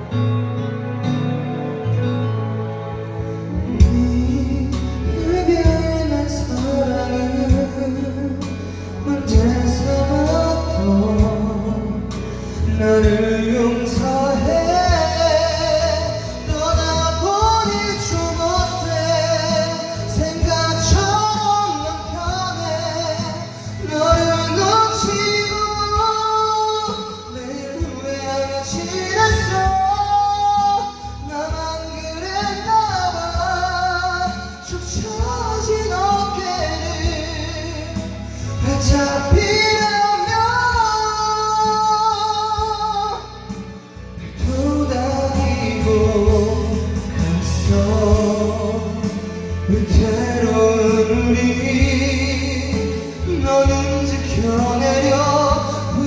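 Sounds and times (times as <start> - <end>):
karaoke backing track: 0.0 - 56.0
man singing a ballad: 0.0 - 56.0.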